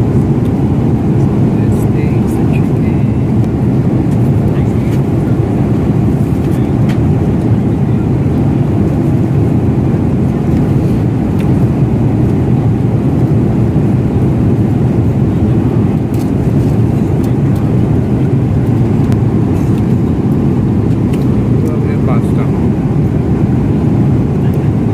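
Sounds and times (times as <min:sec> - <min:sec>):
jet engine cabin drone: 0:00.0 - 0:24.9.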